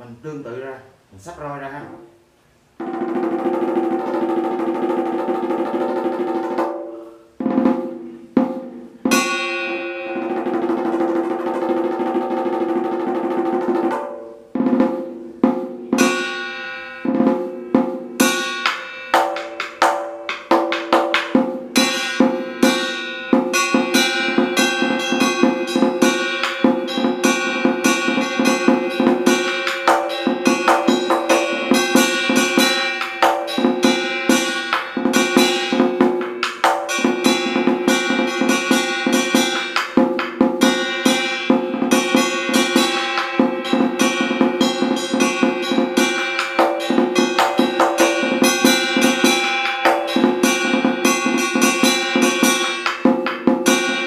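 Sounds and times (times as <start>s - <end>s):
drum struck with wooden sticks: 2.8s - 54.0s.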